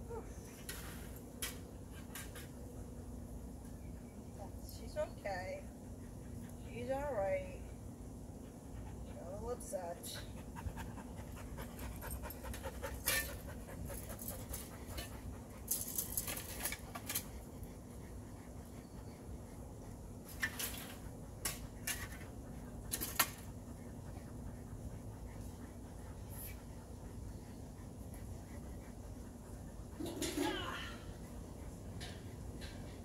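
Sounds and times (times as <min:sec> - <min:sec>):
dog panting: 0:01.7 - 0:33.0.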